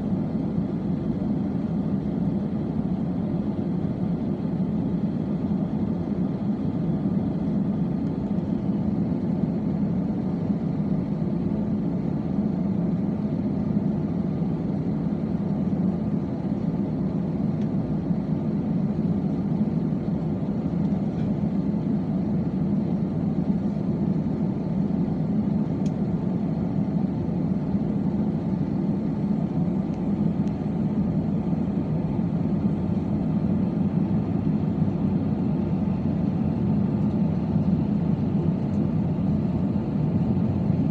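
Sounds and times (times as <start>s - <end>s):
aircraft cabin engine rumble: 0.0s - 40.9s.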